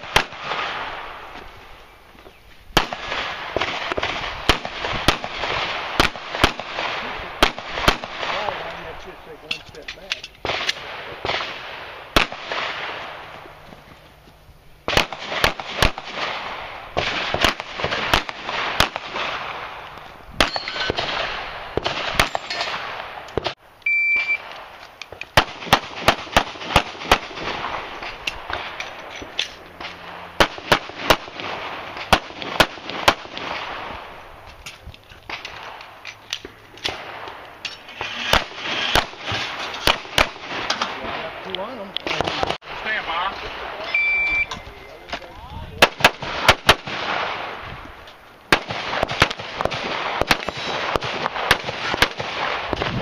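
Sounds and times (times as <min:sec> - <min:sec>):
pistol shots: 0:00.0 - 0:01.2, 0:02.8 - 0:13.4, 0:14.9 - 0:23.6, 0:24.2 - 0:34.2, 0:35.3 - 0:41.4, 0:42.0 - 0:43.8, 0:45.8 - 0:47.6, 0:48.5 - 0:53.0.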